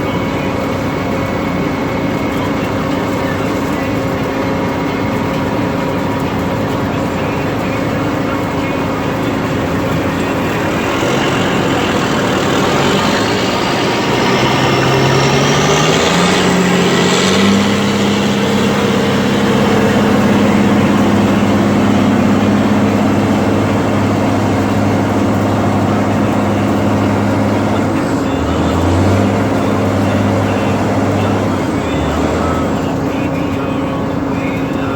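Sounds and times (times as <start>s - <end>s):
combine engine drone: 0.0s - 34.9s
machinery whine: 0.0s - 34.9s.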